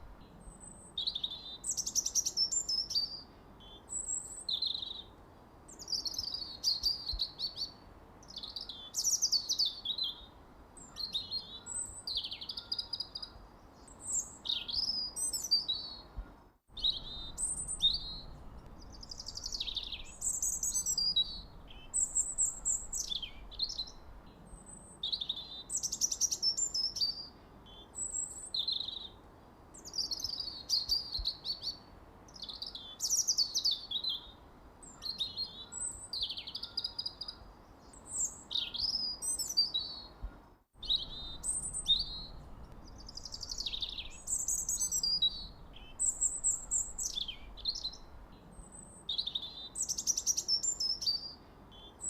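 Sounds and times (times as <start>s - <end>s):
songbird chirping: 0.0s - 52.0s.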